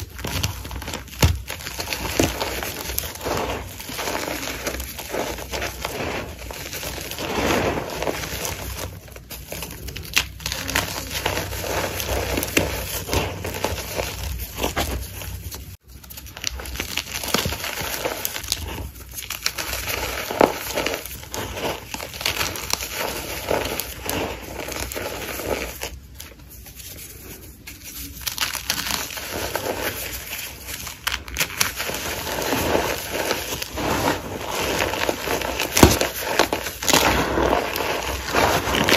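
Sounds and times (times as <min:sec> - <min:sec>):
chalk being crushed: 0:00.0 - 0:38.9.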